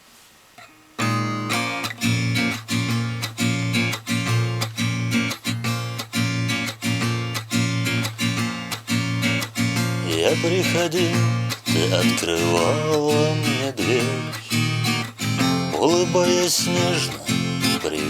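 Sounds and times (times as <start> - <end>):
acoustic guitar strumming: 0.6 - 18.0.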